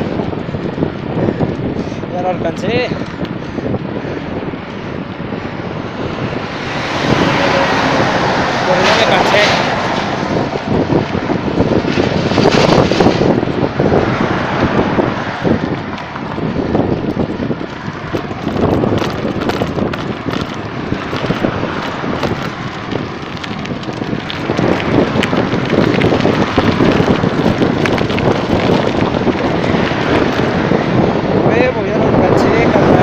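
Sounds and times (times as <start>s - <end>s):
wind buffeting a microphone: 0.0s - 33.0s.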